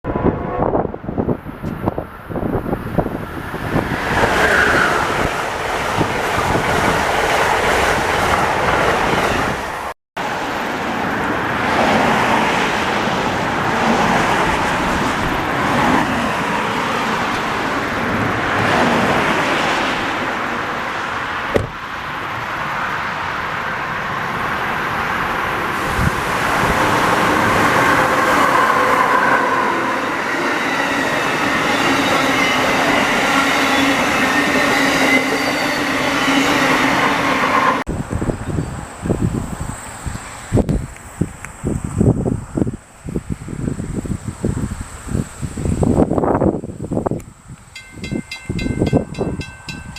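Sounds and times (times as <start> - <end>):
train wheels on rails: 1.5 - 20.6, 24.4 - 43.3, 44.1 - 49.9.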